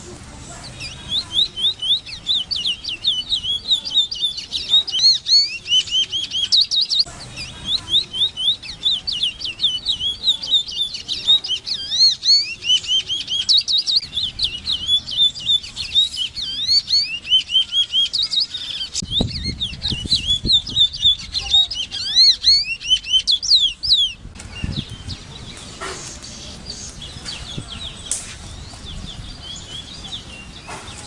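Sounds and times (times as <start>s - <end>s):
bird singing whistled notes: 0.6s - 31.0s.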